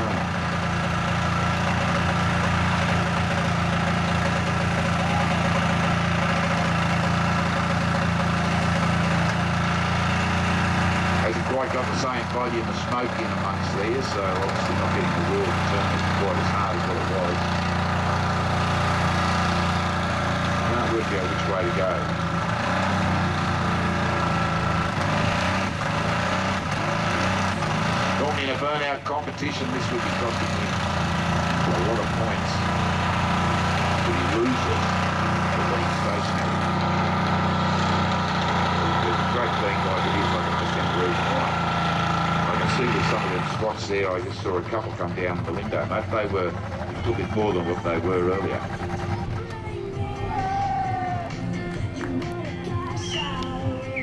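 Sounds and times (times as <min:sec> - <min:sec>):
car engine droning at high revs: 0:00.0 - 0:54.0.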